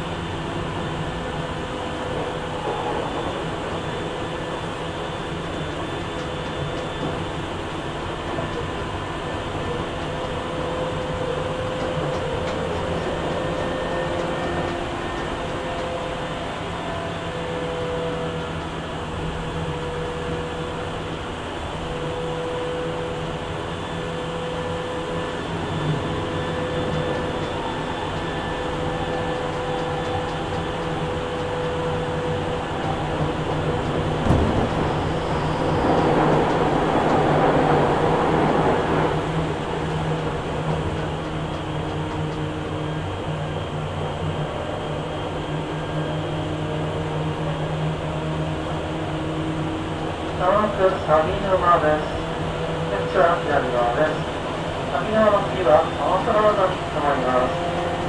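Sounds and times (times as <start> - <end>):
train wheels rumbling on rail: 0.0 - 58.0
traction motor whine: 0.3 - 51.4.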